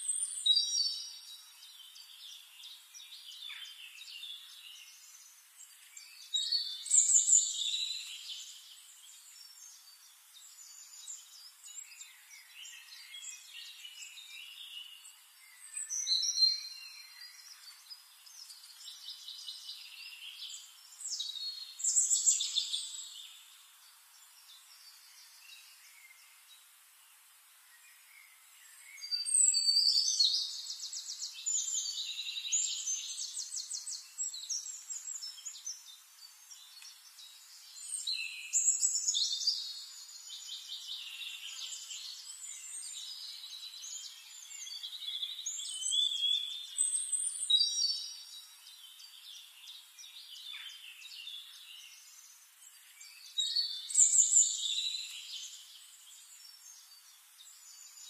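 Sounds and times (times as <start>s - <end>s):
birds singing chirps and trills: 0.0s - 58.0s
faint bird chirping: 0.0s - 58.0s.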